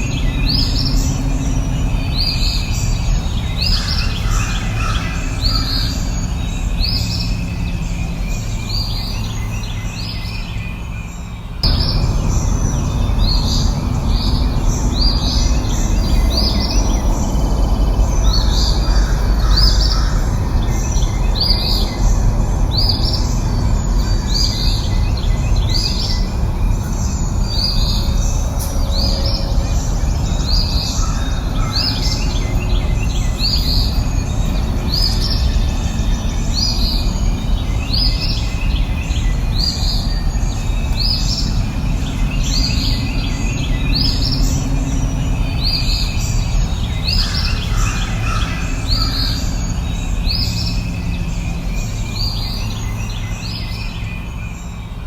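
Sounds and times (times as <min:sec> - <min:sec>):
bird chirping: 0:00.0 - 0:55.0
low background rumble: 0:00.0 - 0:55.0.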